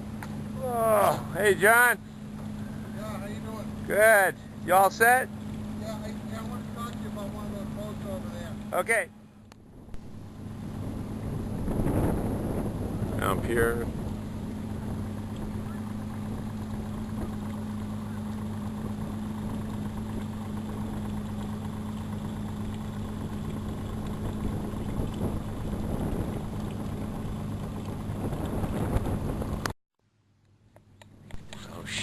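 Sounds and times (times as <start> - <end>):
water noise: 0.0 - 29.8
motorboat engine humming: 0.0 - 32.0
wind: 0.0 - 32.0.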